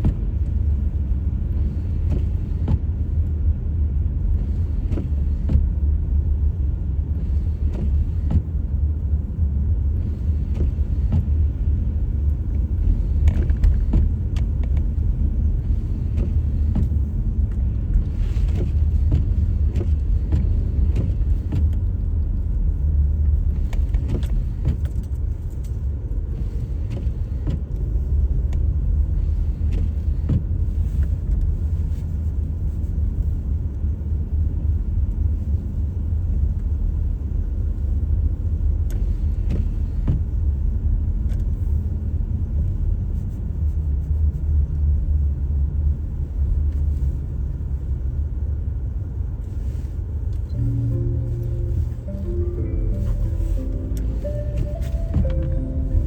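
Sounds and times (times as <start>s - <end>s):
engine and tyre rumble: 0.0s - 56.0s.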